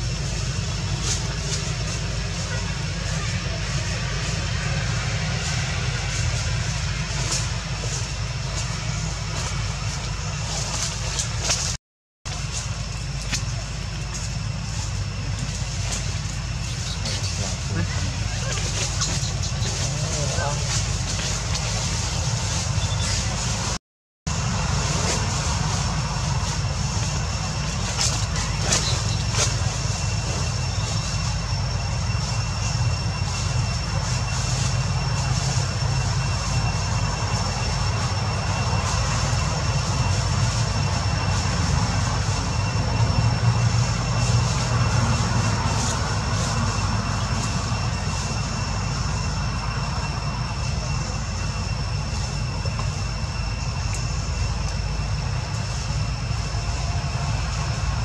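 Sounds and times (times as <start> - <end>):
low rumble with hiss: 0.0 - 58.0
thin high whine: 0.0 - 58.0.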